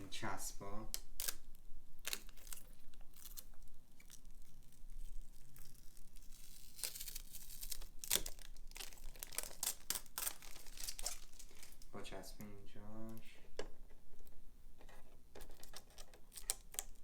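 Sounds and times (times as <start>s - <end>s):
plastic film peeling and crackling: 0.0s - 17.0s.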